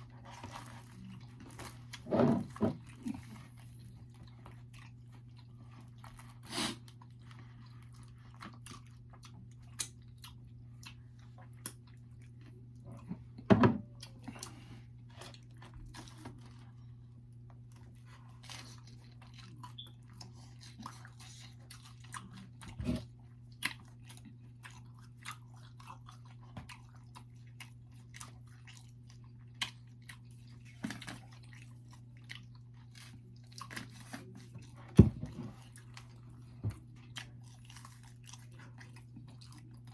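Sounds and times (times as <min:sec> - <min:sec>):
chewing and crunching pizza: 0:00.0 - 0:39.9.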